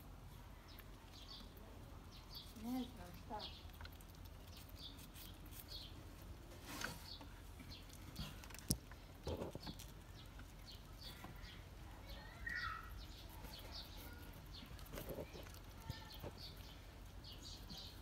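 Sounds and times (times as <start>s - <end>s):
squirrel gnawing: 0.0s - 18.0s.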